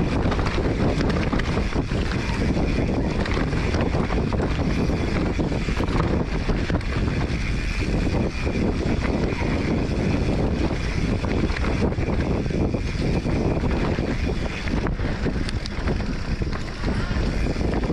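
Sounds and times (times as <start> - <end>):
bike rattling and knocking: 0.0 - 17.9
wind rushing over microphone: 0.0 - 17.9.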